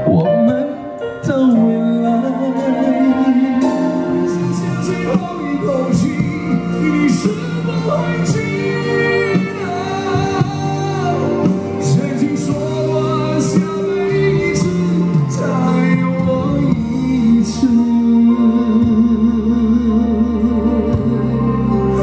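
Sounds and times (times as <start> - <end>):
band accompaniment: 0.0 - 22.0
man singing into a microphone: 0.0 - 22.0.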